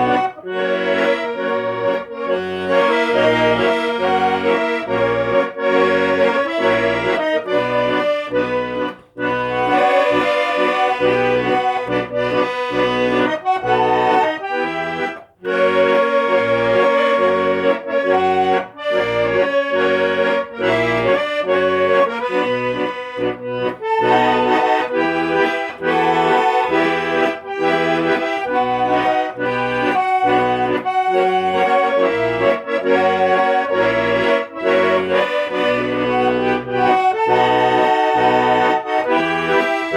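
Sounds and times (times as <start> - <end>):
accordion tango music: 0.0 - 39.9.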